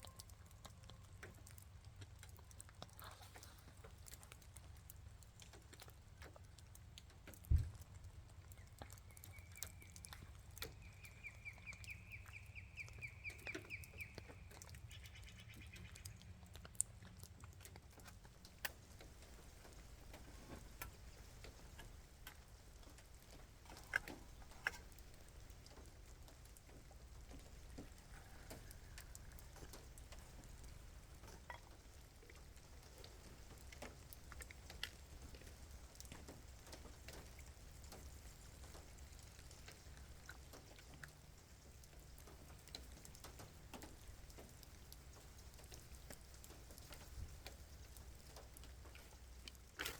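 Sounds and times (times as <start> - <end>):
rain drips and ticks: 0.0 - 49.9.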